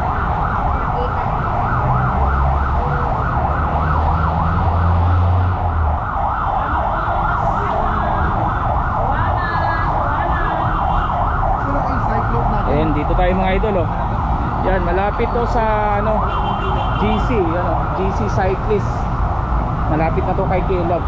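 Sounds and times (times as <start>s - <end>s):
electronic siren yelping: 0.0s - 13.4s, 14.8s - 18.6s.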